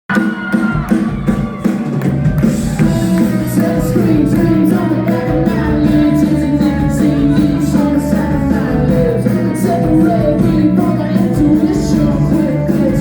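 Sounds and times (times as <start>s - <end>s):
drum hits: 0.1s - 13.0s
live band playing: 0.1s - 13.0s
sustained guitar: 0.8s - 13.0s.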